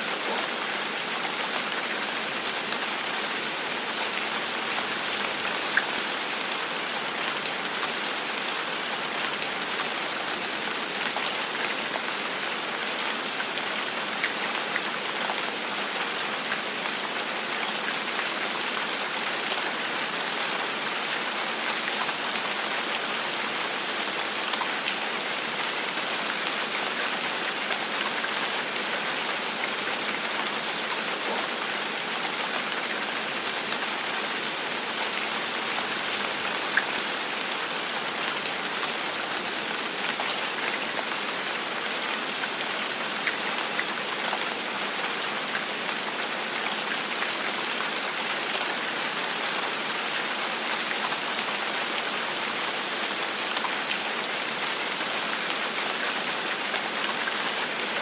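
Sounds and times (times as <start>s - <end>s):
gentle rain hiss: 0.0s - 58.0s.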